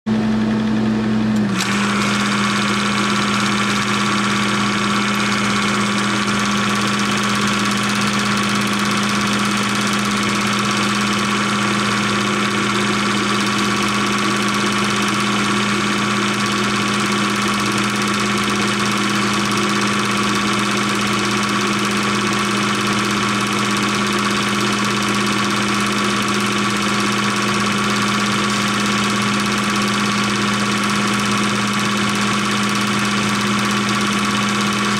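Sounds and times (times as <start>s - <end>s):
film projector humming: 0.1s - 34.9s.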